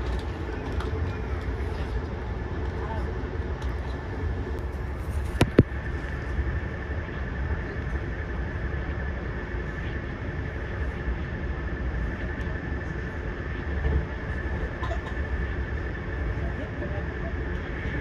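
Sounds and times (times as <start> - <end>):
high-pitched whine: 0.0 - 18.0
train rumbling: 0.0 - 18.0.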